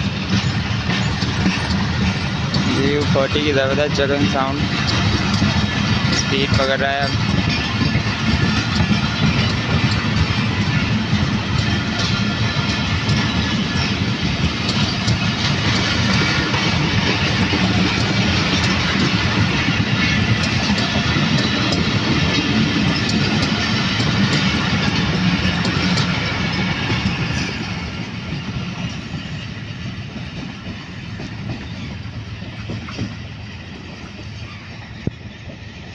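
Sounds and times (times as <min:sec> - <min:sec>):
train coaches rolling past: 0:00.0 - 0:35.9.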